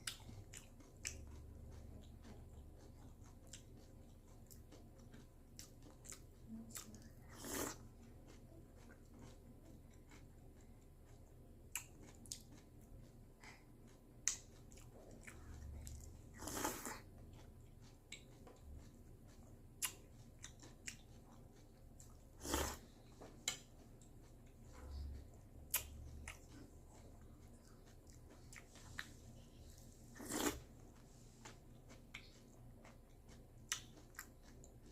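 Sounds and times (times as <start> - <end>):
chewing and crunching cereal: 0.0 - 34.9.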